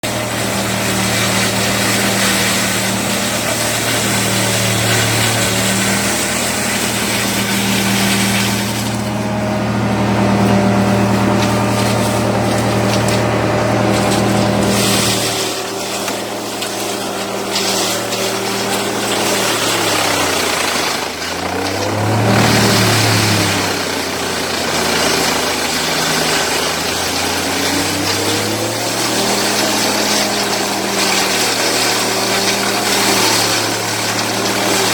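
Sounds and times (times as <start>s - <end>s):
wood chipper engine: 0.0s - 34.9s
wood chipper grinding: 0.0s - 34.9s.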